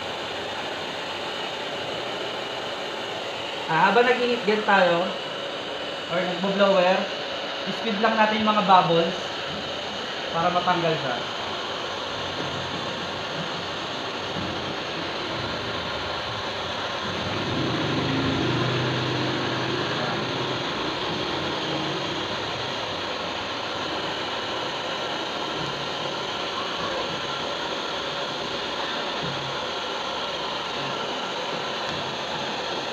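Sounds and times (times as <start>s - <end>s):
hair dryer blowing: 0.0s - 32.9s.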